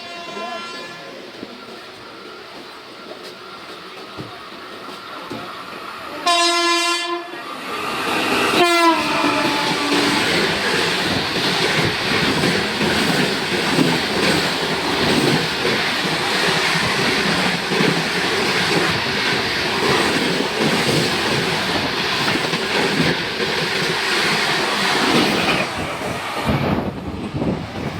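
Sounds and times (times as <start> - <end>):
passenger train passing at speed: 0.0 - 27.9.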